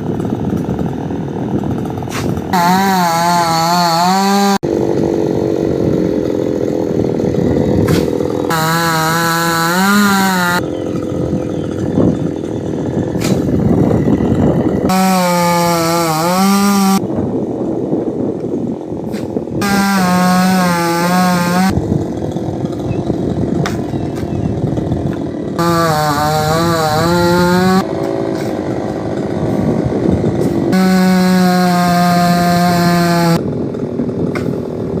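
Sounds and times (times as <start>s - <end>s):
chainsaw cutting wood: 0.0s - 17.1s, 18.4s - 35.0s.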